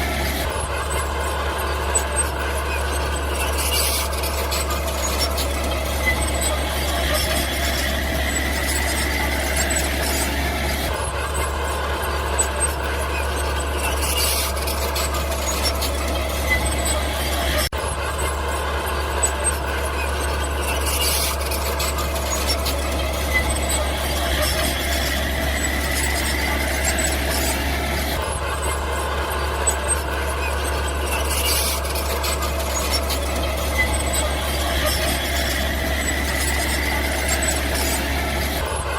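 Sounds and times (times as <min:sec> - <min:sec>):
small bulldozer engine running: 0:00.0 - 0:38.9
squeaks and clicks: 0:00.0 - 0:38.9.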